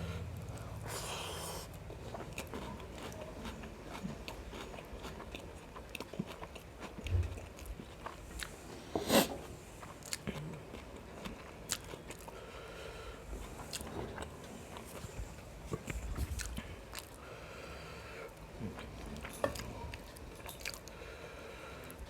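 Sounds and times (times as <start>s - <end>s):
close chewing and mouth smacks: 0.4s - 8.7s, 9.5s - 17.5s, 18.3s - 22.0s.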